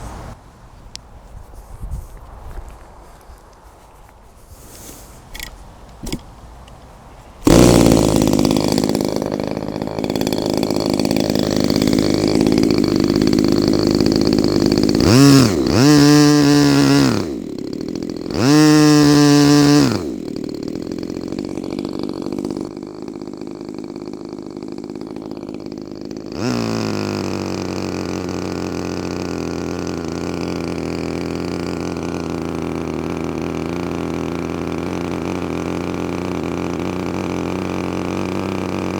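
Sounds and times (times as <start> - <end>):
model airplane engine revving: 4.8 - 38.9.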